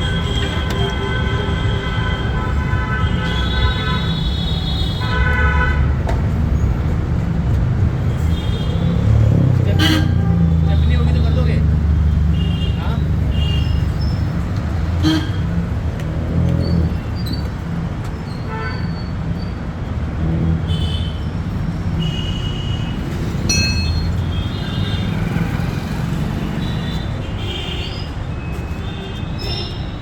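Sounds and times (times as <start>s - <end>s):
road traffic rumbling: 0.0s - 30.0s.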